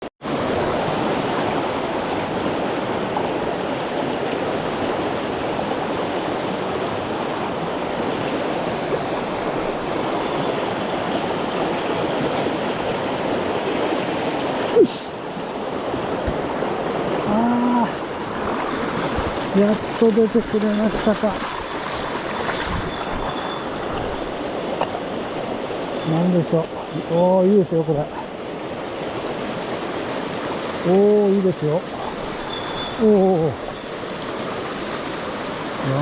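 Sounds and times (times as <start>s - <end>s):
mountain stream rushing over rocks: 0.2s - 36.0s.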